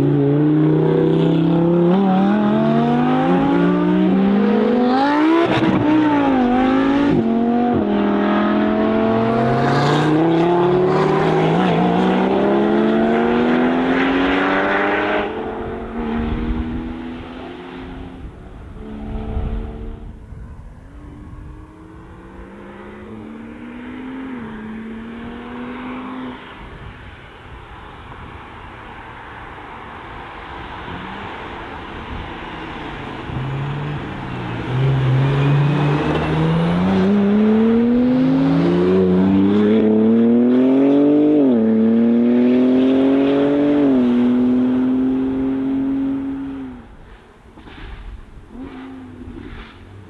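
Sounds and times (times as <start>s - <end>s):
sports car engines accelerating: 0.0s - 26.8s, 30.7s - 47.0s.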